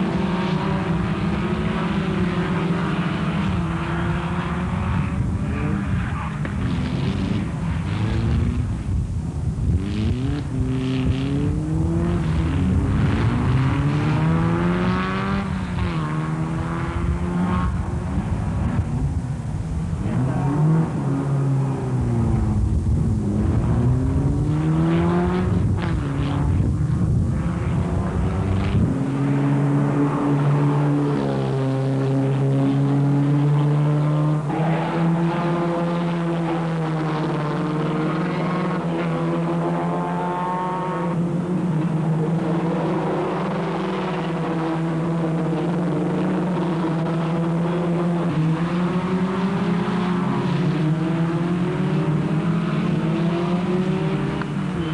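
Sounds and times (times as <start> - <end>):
racing car engines: 0.0 - 54.9.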